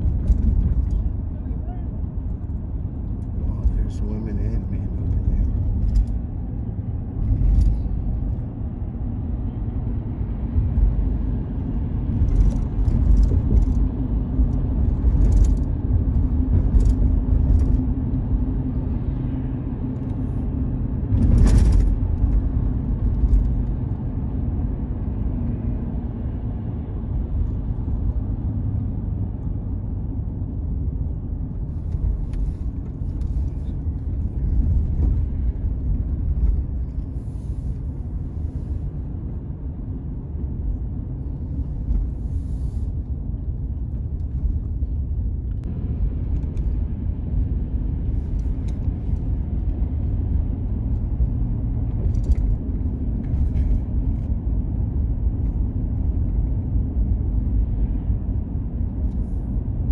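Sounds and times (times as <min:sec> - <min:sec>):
tyre and engine rumble in car: 0:00.0 - 0:59.9.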